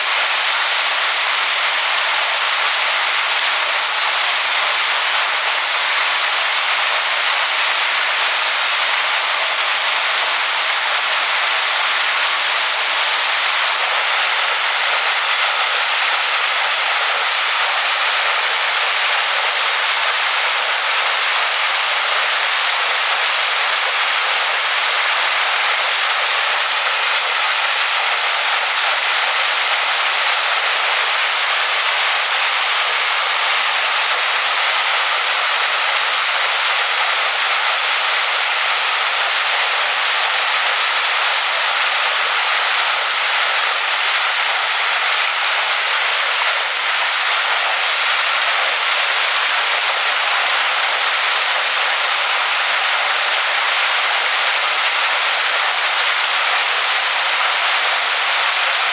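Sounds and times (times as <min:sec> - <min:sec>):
waterfall pouring over rocks: 0:00.0 - 0:58.9.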